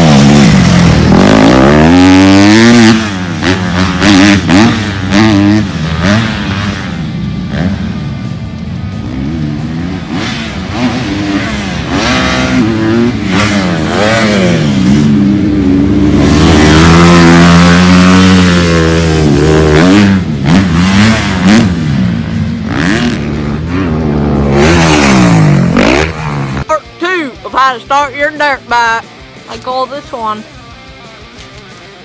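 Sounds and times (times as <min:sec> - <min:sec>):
off-road vehicle engine revving: 0:00.0 - 0:30.4.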